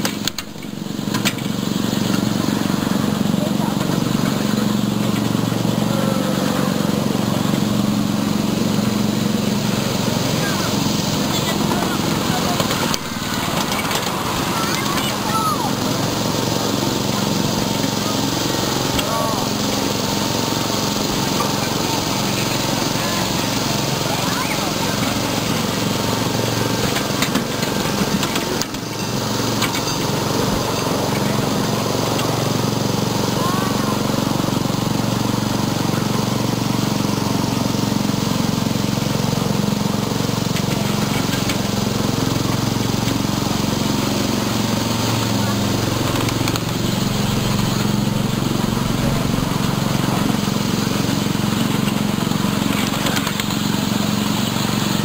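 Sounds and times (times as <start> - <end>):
small train engine droning: 0.0 - 55.0
wheels clicking and clacking: 0.0 - 55.0.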